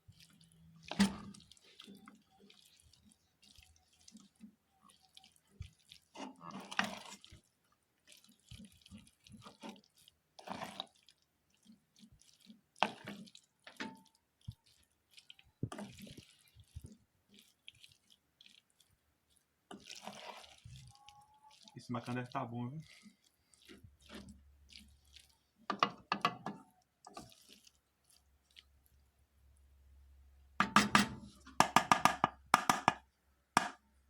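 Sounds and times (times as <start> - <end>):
spoon stirring pasta in a pot: 0.0 - 34.0.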